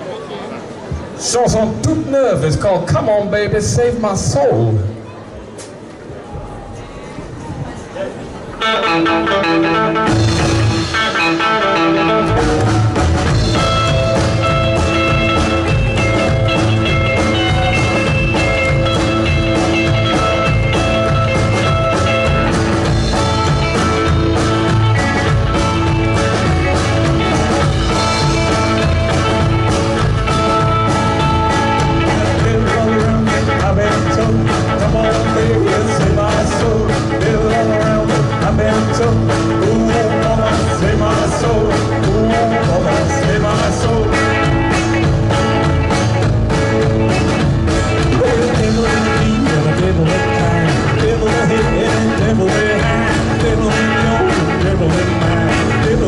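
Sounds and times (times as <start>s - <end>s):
drums: 0.0s - 56.0s
guitar: 6.8s - 56.0s
blues-rock band playing: 8.5s - 56.0s
bass: 8.6s - 56.0s.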